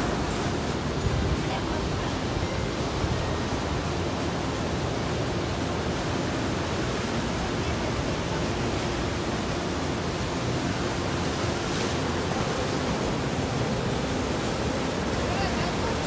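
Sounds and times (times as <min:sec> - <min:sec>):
waves breaking and foaming: 0:00.0 - 0:16.0.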